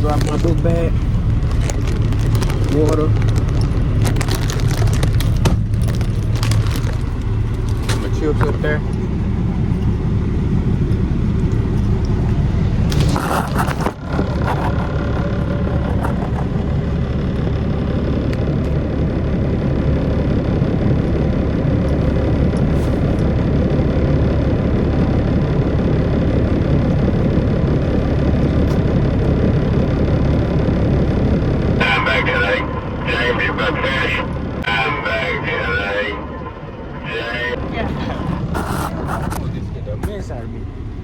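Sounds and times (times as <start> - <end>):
diesel truck engine rumbling: 0.0 - 41.0.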